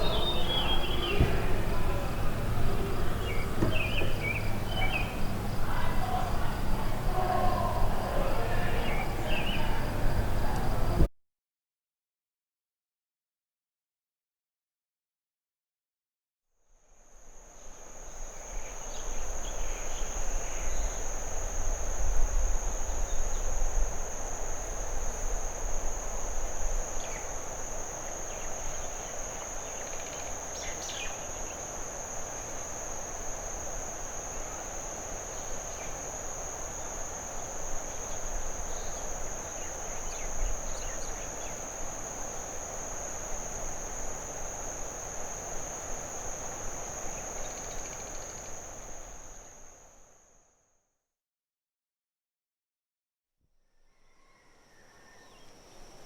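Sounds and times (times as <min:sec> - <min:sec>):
insect chorus trilling: 0:00.0 - 0:11.1, 0:17.0 - 0:50.2, 0:53.8 - 0:56.0.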